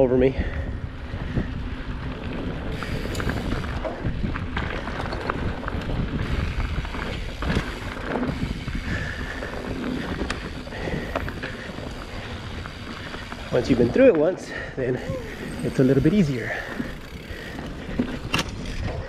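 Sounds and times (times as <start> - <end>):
wind buffeting microphone: 0.0 - 19.0
bike rattling over rocks: 1.0 - 19.0.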